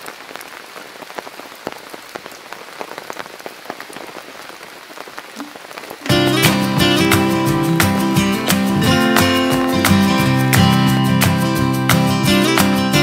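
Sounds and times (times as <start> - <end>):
raindrops ticking: 0.0 - 12.6
steady rain into puddles: 0.0 - 13.0.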